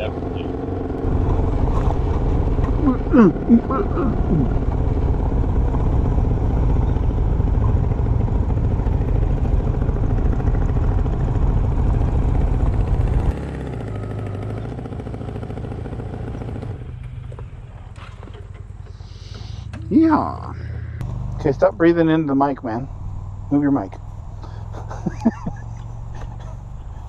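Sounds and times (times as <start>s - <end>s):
motorcycle engine: 0.0s - 27.0s.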